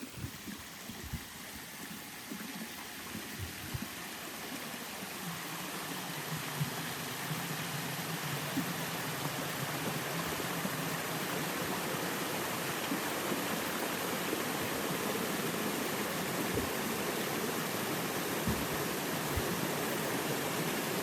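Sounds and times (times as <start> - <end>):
water flowing: 0.0 - 21.0.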